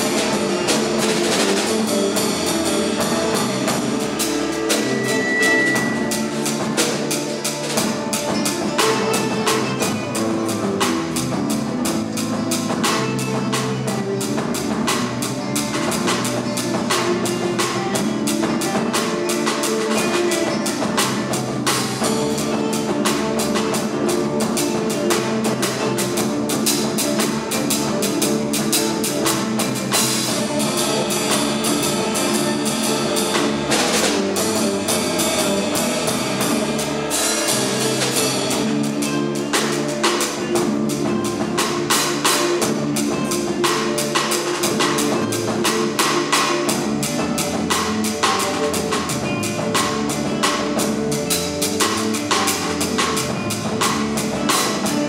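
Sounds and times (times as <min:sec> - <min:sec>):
bass guitar: 0:00.0 - 0:55.0
drum kit rhythm: 0:00.0 - 0:55.0.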